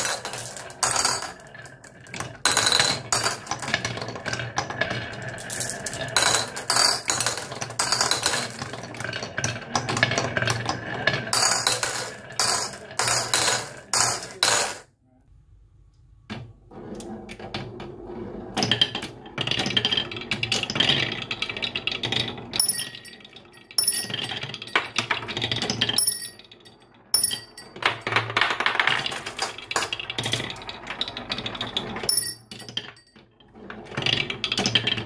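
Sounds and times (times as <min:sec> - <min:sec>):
marbles rolling on wooden tracks: 0:00.0 - 0:14.8, 0:17.3 - 0:35.0.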